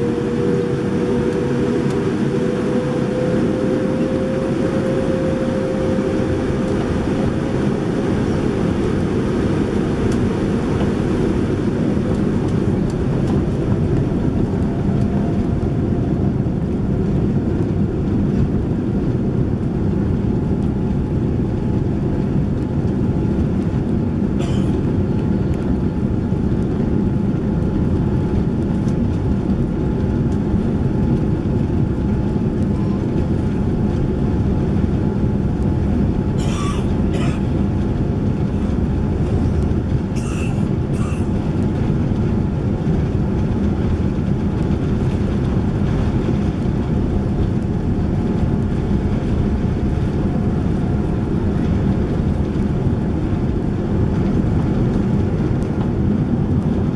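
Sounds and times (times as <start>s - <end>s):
aircraft engines and wheels rumbling: 0.0s - 56.9s.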